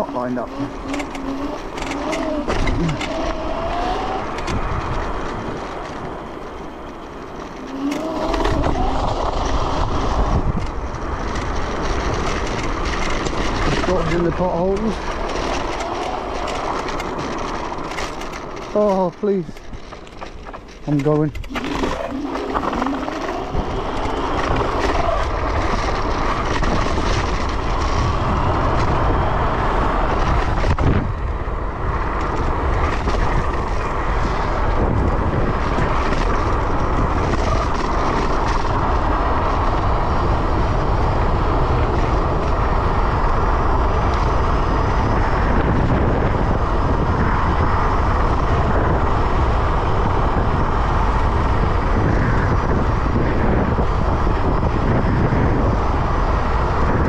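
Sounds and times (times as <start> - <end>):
scooter tyre and motor noise: 0.0 - 57.0
wind rush on microphone: 0.0 - 57.0.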